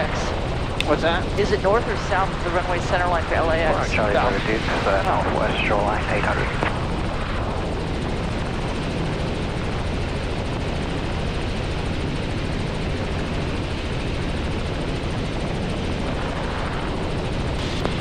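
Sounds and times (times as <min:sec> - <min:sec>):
helicopter engine and rotors drone: 0:00.0 - 0:18.0.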